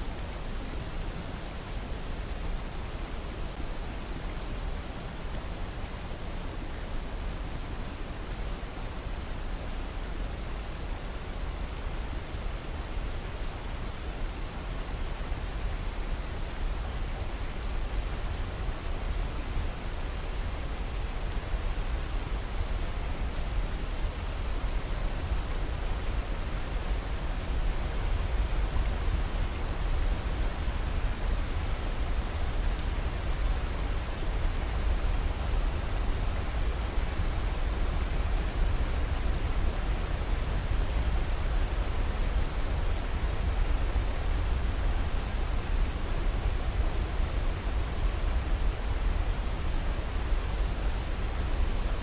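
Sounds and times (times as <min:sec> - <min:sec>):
river rushing over boulders: 0:00.0 - 0:52.0.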